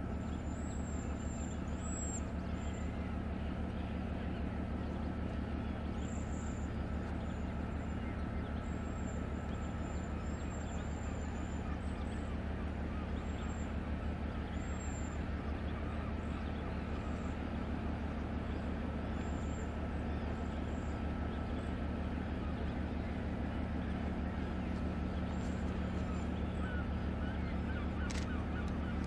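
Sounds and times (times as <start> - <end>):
ship engines droning: 0.0 - 29.0.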